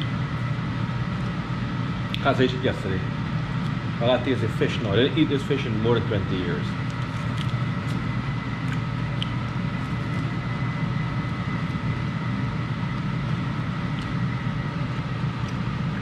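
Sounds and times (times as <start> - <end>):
appliance fan whirring: 0.0 - 16.0.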